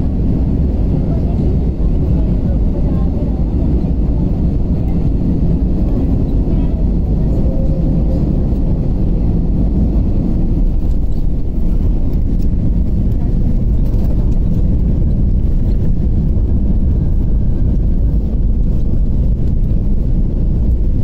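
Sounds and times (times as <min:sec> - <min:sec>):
airliner engines rumbling: 0:00.0 - 0:21.0.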